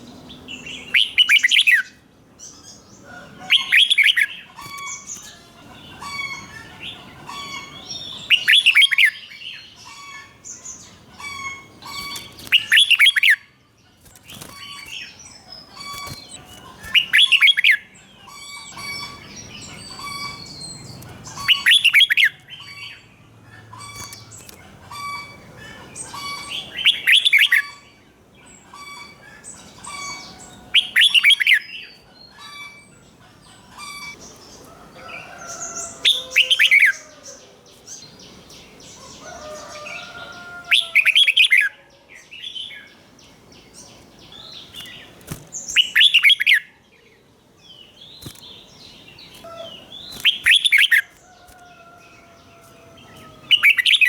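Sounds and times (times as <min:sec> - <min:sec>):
soft bird chirps: 0:00.1 - 0:23.1, 0:23.7 - 0:54.0.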